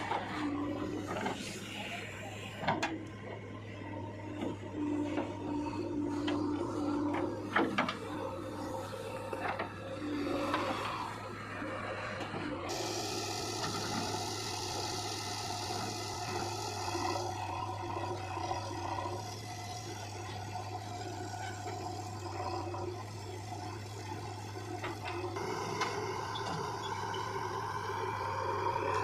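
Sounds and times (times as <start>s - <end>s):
diesel engine of heavy machinery: 0.0s - 29.0s.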